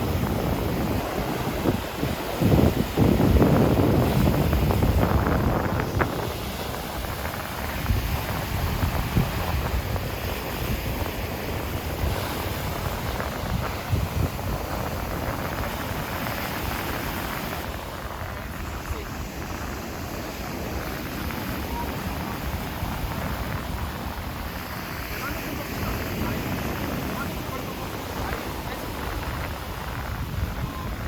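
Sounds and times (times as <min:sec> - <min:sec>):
surf washing on beach: 0:00.0 - 0:31.0
wind buffeting microphone: 0:00.0 - 0:31.0.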